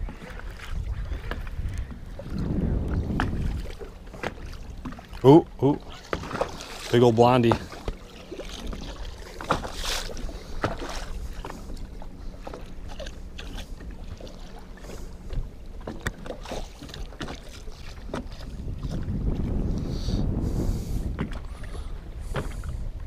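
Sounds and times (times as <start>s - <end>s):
sharp knocks and splashes: 0.0s - 14.6s, 15.3s - 19.4s
waves lapping against a hull: 0.0s - 23.0s
wind: 0.0s - 23.0s.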